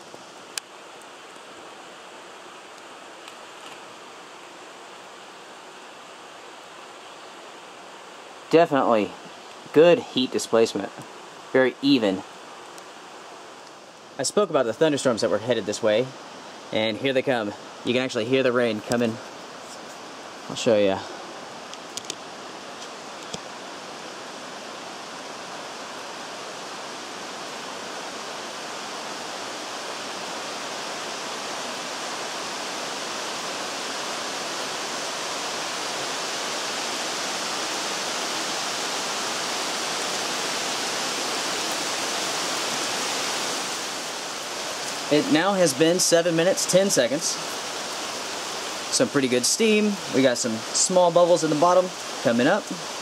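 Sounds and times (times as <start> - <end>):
rain falling on trees and ground: 0.0 - 53.0.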